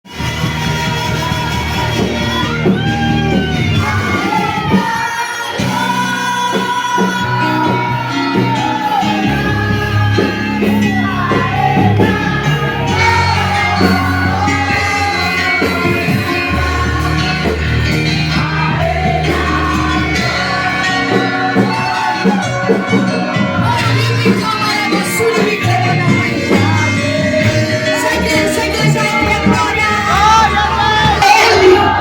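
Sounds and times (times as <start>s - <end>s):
song with singing over a band: 0.1s - 32.0s.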